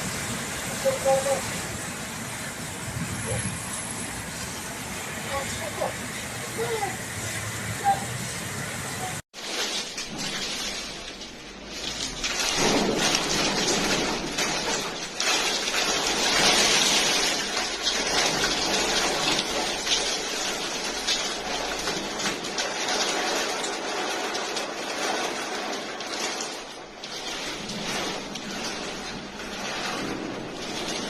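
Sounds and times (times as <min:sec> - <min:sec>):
rain pouring: 0:00.0 - 0:31.0.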